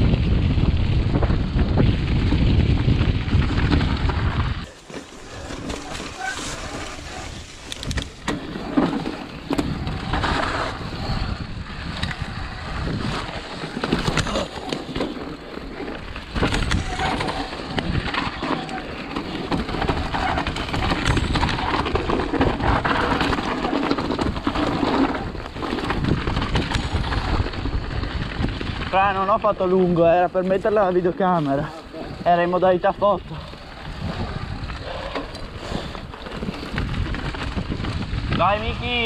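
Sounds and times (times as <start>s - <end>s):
bike clattering and rattling: 0.0s - 39.0s
bike tyres rolling over dirt and rock: 0.0s - 39.0s.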